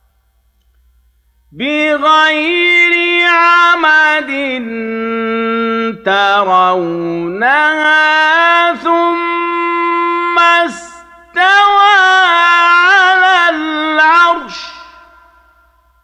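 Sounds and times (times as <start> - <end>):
man chanting recitation: 1.6 - 15.3.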